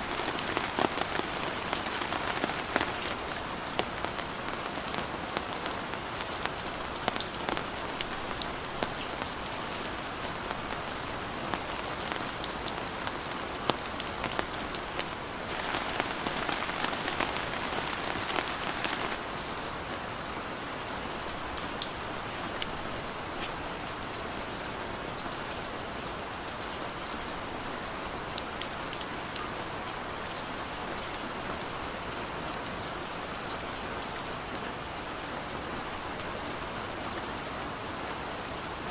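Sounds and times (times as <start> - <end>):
heavy rain with ticking drops: 0.0 - 38.9.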